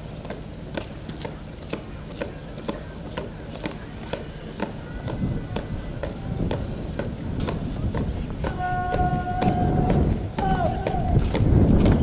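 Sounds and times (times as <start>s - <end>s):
marching footsteps: 0.0s - 12.0s.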